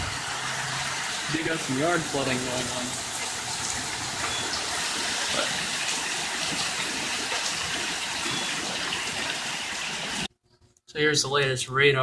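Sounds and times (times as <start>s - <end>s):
heavy rain pouring: 0.0s - 10.3s
water running off: 0.0s - 10.3s.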